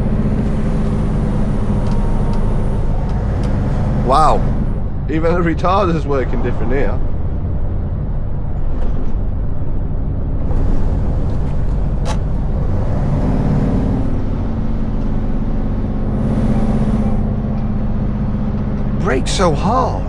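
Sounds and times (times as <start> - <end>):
truck diesel engine droning: 0.0 - 20.0.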